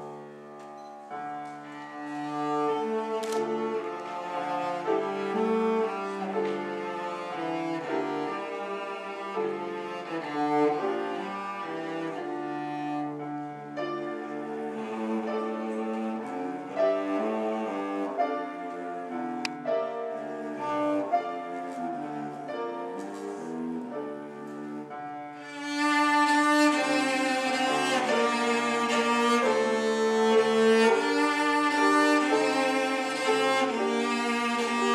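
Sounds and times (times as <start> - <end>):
bowed cello melody: 0.0 - 34.9.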